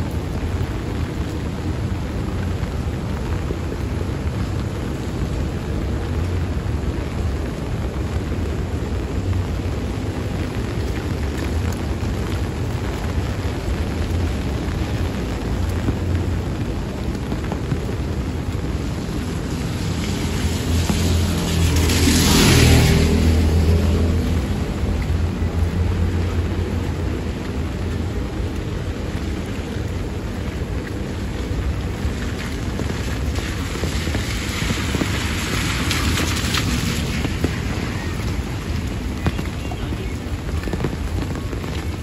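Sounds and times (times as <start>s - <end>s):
rain on wet road: 0.0s - 42.0s.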